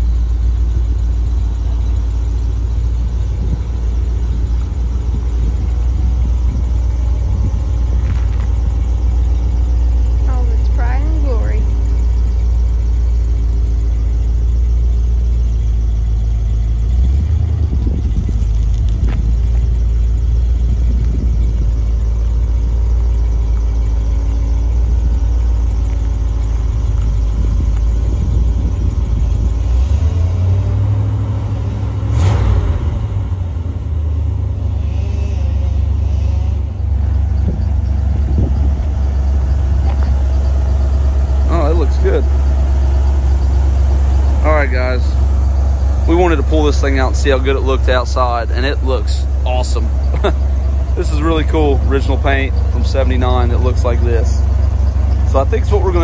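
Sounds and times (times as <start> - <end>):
pickup truck engine running: 0.0 - 56.0.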